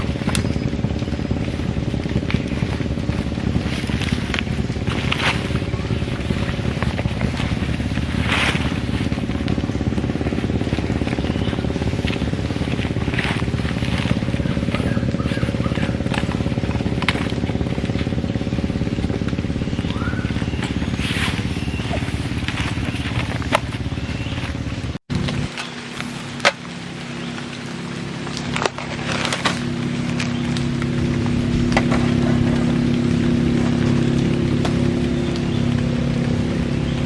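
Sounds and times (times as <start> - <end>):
engine ticks: 0.0 - 37.0
motorcycle engine running: 0.0 - 37.0.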